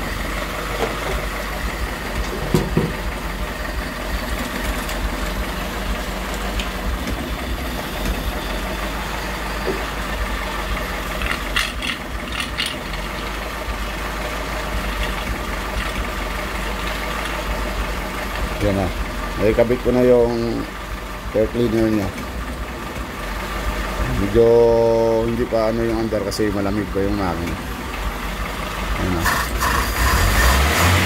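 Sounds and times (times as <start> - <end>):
car engine idling unevenly: 0.0 - 31.0.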